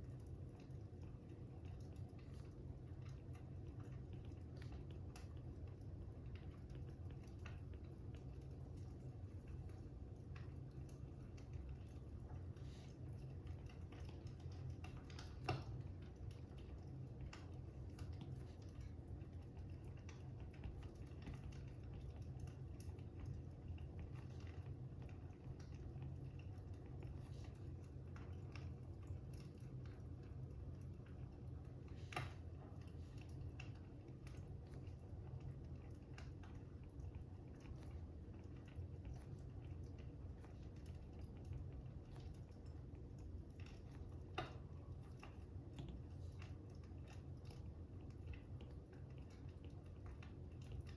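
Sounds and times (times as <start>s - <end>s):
fire crackling: 0.0s - 50.9s.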